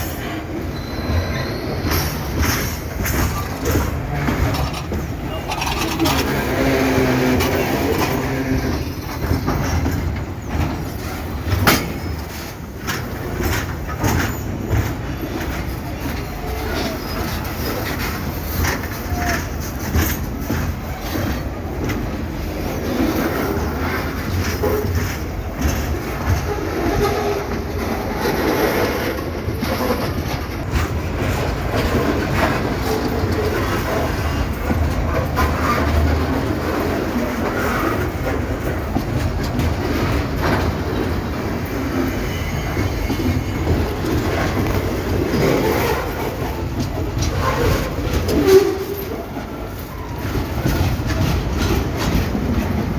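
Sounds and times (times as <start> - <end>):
train wagons rumbling on rails: 0.0 - 52.9
wheels clacking over rail joints: 1.6 - 52.9.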